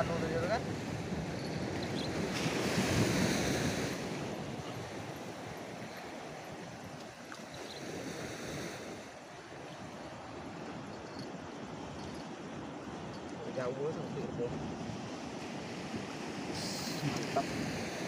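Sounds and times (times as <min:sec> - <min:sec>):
surf washing: 0:00.0 - 0:18.0
wind: 0:00.0 - 0:18.0.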